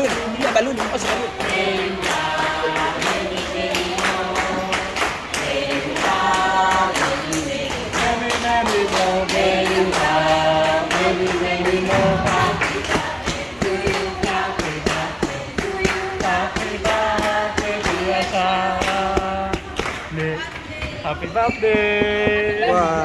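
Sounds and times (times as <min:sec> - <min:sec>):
group singing a birthday song: 0:00.0 - 0:23.0
hand-clapping: 0:00.0 - 0:23.0.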